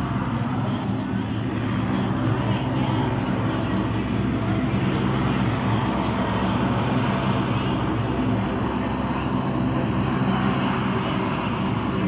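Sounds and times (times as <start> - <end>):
turboprop aircraft engines droning: 0.0 - 12.0.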